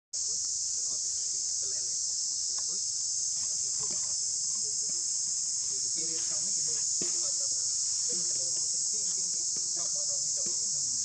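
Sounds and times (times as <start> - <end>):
insect chorus drone: 0.2 - 11.0.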